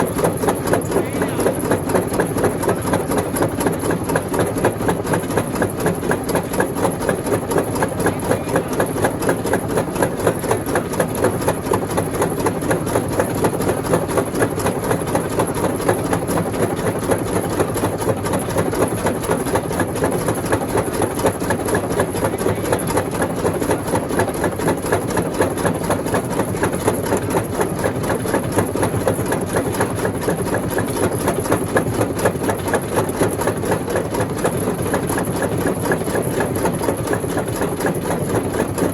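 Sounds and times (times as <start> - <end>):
rock crusher machine running: 0.0 - 38.9.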